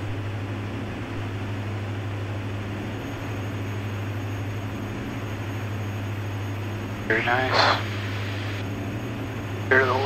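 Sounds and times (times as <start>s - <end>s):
aircraft engines droning: 0.0s - 10.0s.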